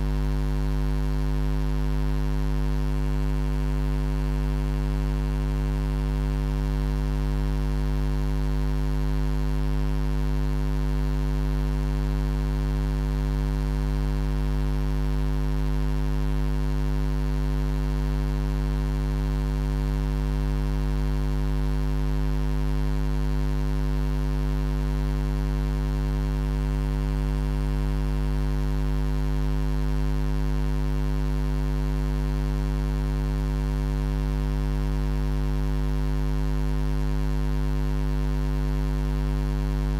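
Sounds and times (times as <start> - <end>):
low buzzing hum: 0.0 - 39.9.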